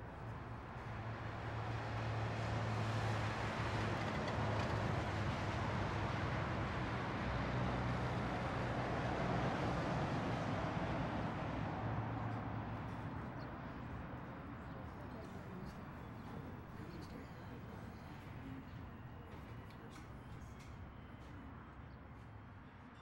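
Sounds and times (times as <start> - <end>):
road traffic: 0.0 - 23.0.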